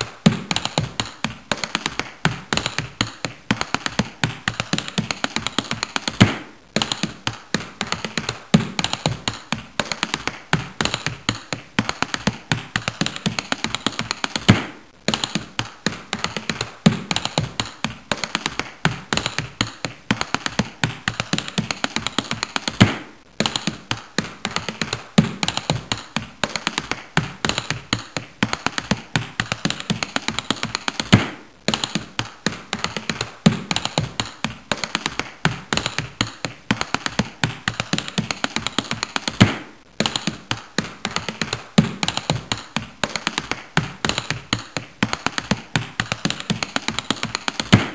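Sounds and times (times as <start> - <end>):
rapid dry tapping and clicking: 0.0 - 47.9.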